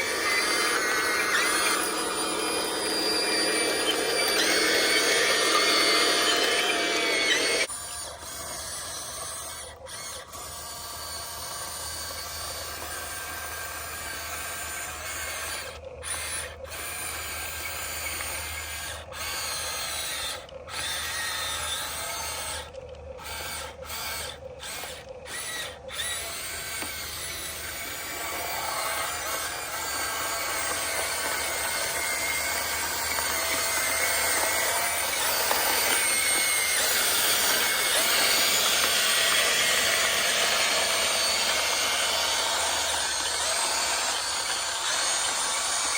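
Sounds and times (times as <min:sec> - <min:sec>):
small electric motors whining: 0:00.0 - 0:45.9.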